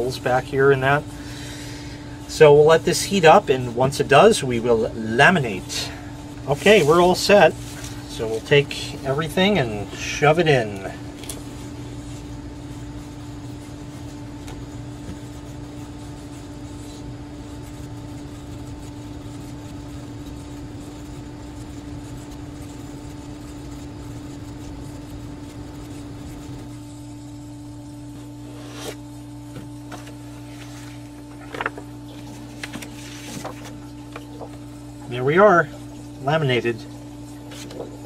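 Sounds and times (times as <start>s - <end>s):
laminator humming: 0.0s - 38.0s.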